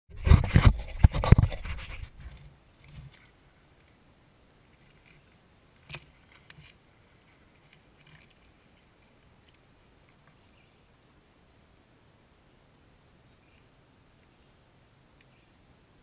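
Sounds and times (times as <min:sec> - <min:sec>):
faint hiss: 0:02.0 - 0:16.0.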